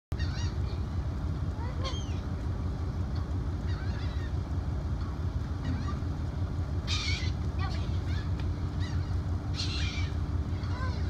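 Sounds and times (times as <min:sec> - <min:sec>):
gulls crying: 0:00.1 - 0:11.0
low rumble: 0:00.1 - 0:11.0.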